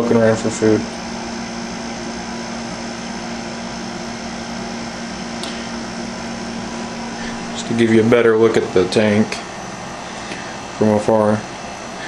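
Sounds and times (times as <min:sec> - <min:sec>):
machine hum with hiss: 0:00.0 - 0:12.0.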